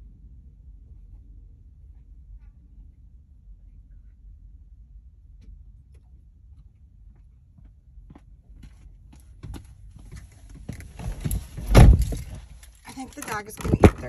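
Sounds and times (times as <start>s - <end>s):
low rumble inside car: 0.0s - 14.0s.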